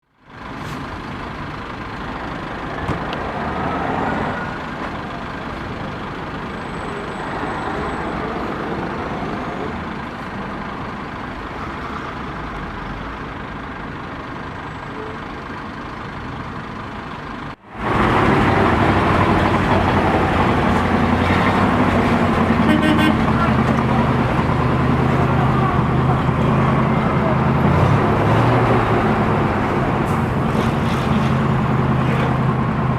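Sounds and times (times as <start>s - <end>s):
traffic engines in a jam: 0.0s - 32.9s.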